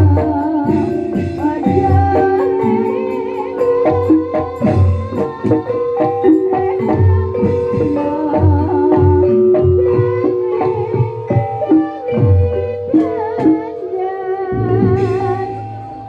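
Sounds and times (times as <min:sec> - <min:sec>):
gamelan ensemble: 0:00.0 - 0:16.0.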